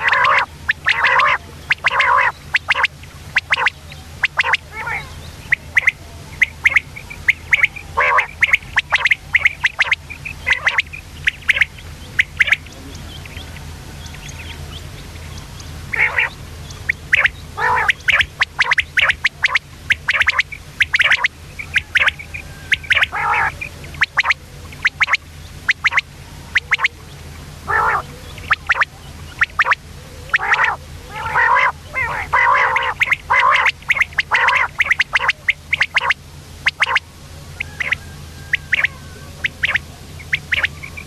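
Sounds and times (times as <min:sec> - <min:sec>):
quail chirps and squawks: 0:00.0 - 0:41.0
steady low hum: 0:00.0 - 0:41.0.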